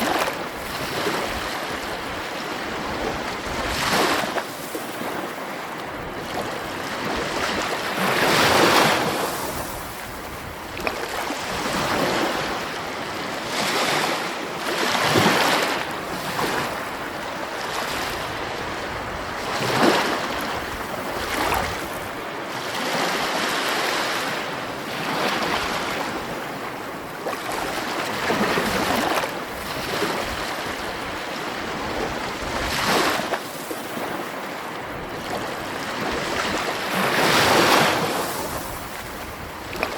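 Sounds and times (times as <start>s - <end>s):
surf waves washing in: 0.0s - 39.9s.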